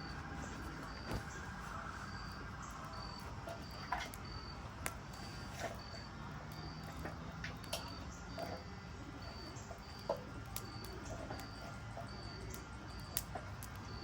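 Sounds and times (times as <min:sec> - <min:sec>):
cricket chirping: 0:00.0 - 0:14.0
low steady background noise: 0:00.0 - 0:14.0.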